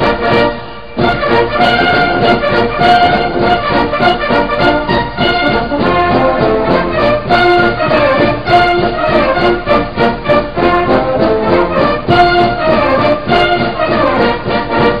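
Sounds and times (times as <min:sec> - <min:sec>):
brass and orchestral music: 0:00.0 - 0:15.0.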